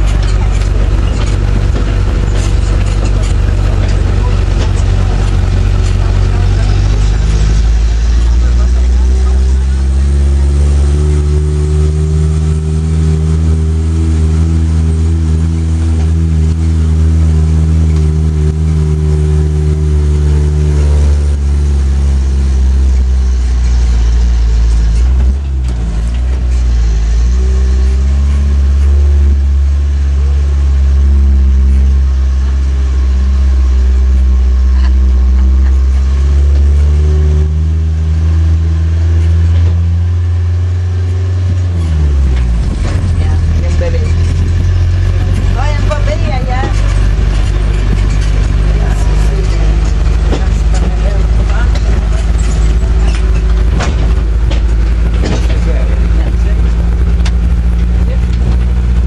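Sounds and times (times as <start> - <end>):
road train engine droning: 0.0 - 59.0.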